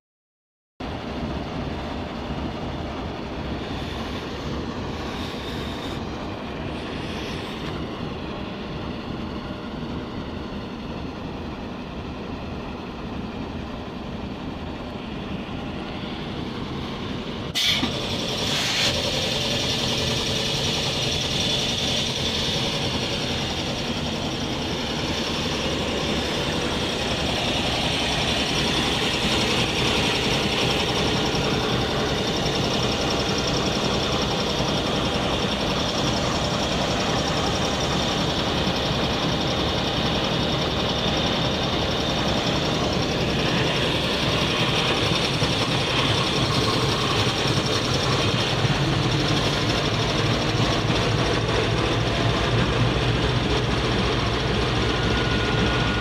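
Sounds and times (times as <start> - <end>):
diesel locomotive engine running: 0.8 - 56.0.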